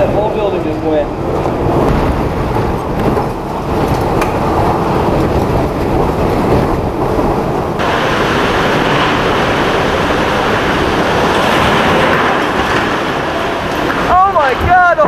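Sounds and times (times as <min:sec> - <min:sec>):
strong wind rushing: 0:00.0 - 0:15.0.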